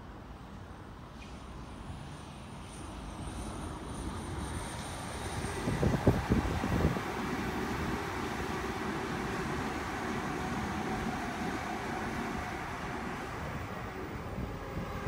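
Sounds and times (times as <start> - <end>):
electric train passing: 0.6 - 15.0.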